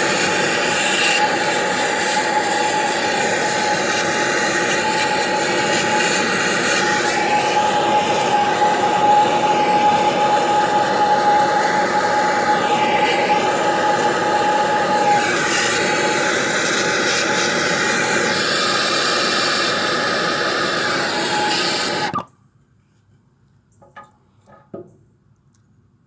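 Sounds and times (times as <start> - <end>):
gas torch flame hissing: 0.0 - 22.2.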